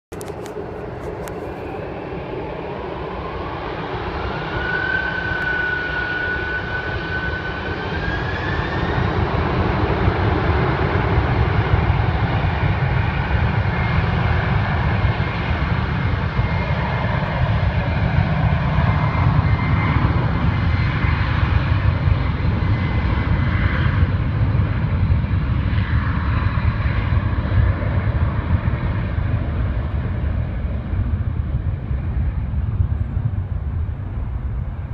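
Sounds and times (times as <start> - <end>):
jet engines whining: 0.1 - 34.9
low jet rumble: 0.1 - 34.9.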